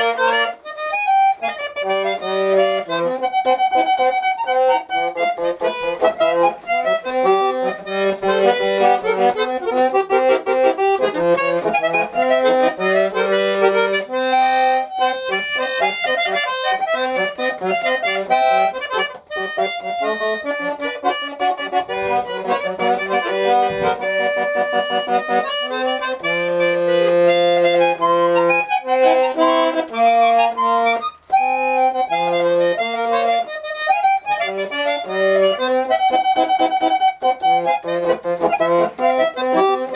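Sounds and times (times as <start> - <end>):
button accordion playing melody: 0.0 - 39.9.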